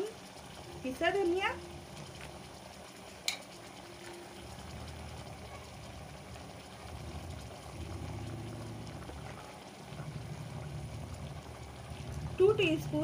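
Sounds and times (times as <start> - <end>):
faint watery bubbling: 0.0 - 13.0
gas flame rumbling: 0.0 - 13.0.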